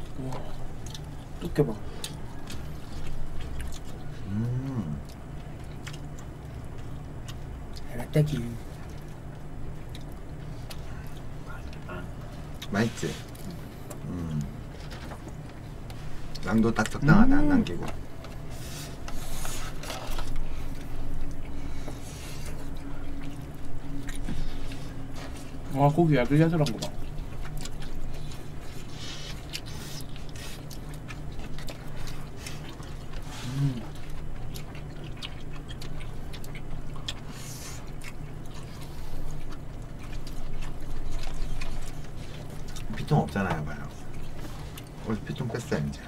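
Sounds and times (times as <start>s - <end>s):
person chewing: 0.0s - 45.1s
steady low hum: 0.0s - 46.0s.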